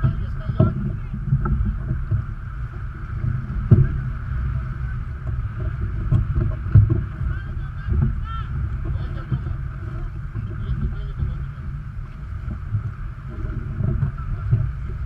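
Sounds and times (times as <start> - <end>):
loud thumps: 0.0 - 14.9
rushing water: 0.0 - 15.0
wind buffeting microphone: 0.0 - 15.0.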